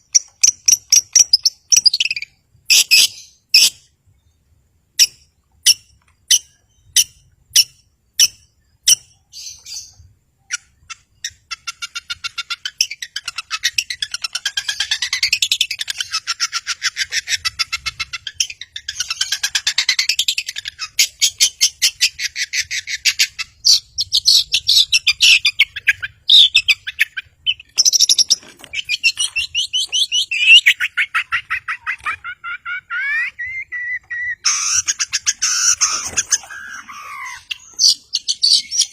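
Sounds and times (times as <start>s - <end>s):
shrike chattering song: 5.0s - 38.9s.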